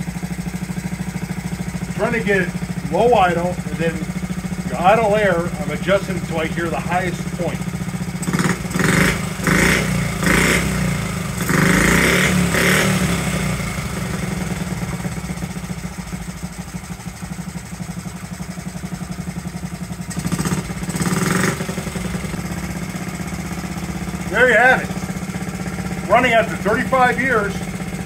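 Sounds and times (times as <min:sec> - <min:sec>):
small motorcycle engine revving and idling: 0:00.0 - 0:28.0.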